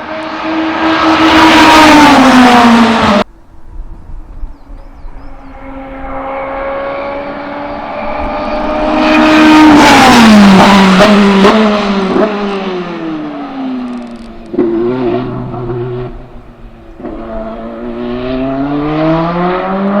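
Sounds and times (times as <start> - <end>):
race car engine passing at speed: 0.0 - 3.3, 4.8 - 20.0.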